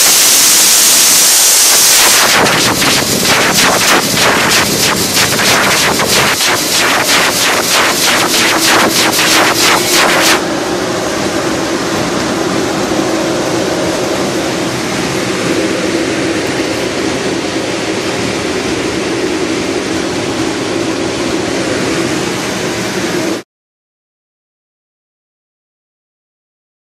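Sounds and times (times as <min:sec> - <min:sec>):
vacuum rushing roar: 0:00.0 - 0:23.4.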